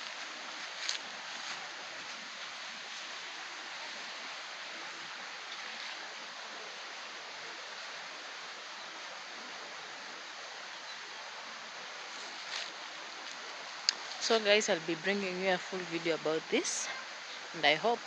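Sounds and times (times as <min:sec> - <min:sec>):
stream water running: 0:00.0 - 0:18.0.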